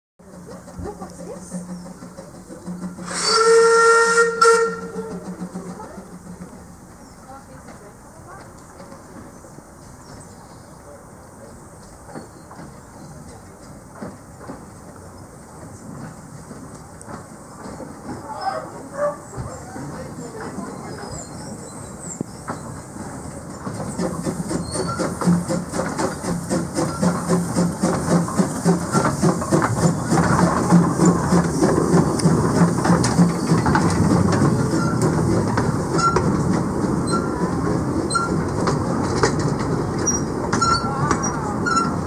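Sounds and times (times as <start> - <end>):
steam locomotive chuffing: 0.2 - 42.0
wheels clicking over rail joints: 0.2 - 42.0.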